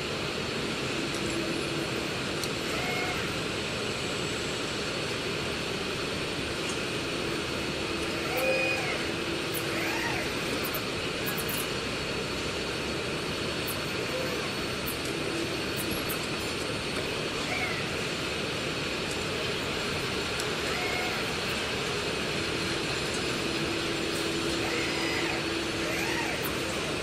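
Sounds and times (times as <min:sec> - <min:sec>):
machine noise and hum: 0:00.0 - 0:27.0.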